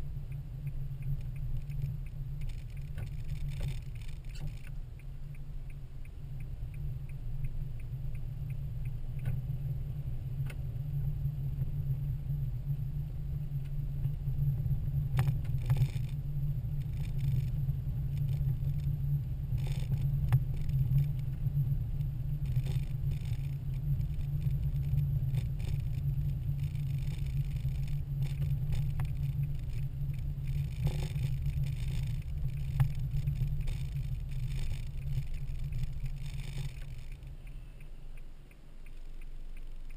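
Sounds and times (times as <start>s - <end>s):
car engine and tyres rumbling: 0.0s - 39.9s
rapid light ticks: 0.0s - 39.9s.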